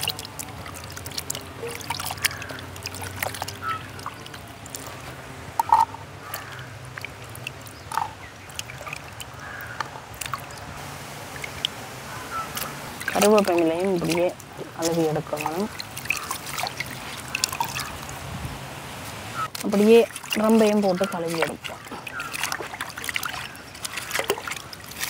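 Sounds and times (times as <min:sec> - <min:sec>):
water plops: 0:00.0 - 0:18.2, 0:19.4 - 0:25.0
water splashing and trickling: 0:00.0 - 0:25.0.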